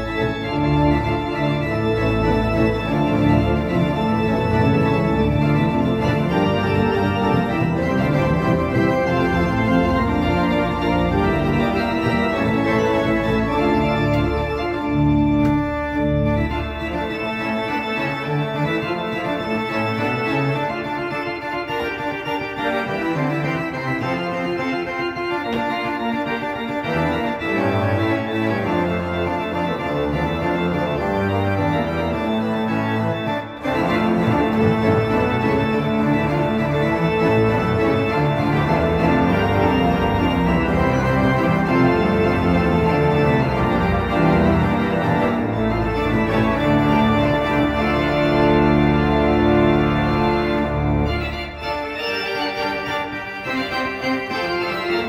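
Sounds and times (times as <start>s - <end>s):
pipe organ playing: 0.0s - 55.0s.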